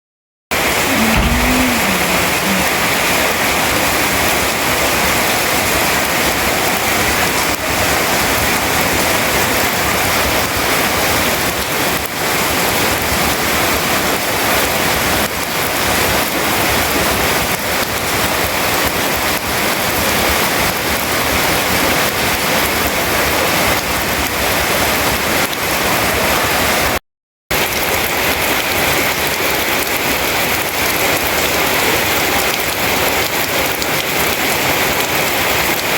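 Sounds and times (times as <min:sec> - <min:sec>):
rain falling: 0:00.5 - 0:35.9.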